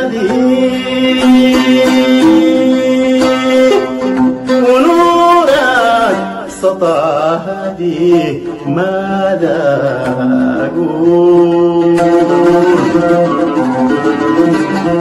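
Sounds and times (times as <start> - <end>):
plucked oud: 0.0 - 15.0.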